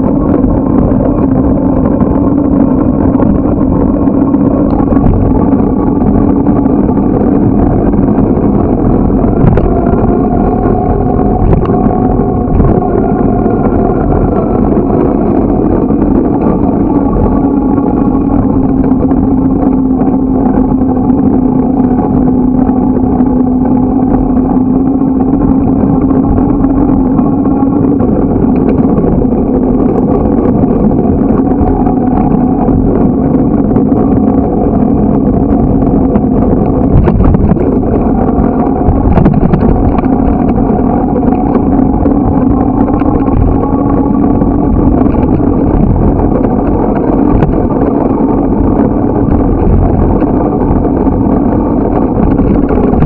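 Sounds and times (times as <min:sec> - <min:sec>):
bicycle rolling noise: 0:00.0 - 0:53.0
low hum: 0:00.0 - 0:53.0
wind rushing: 0:00.0 - 0:53.0.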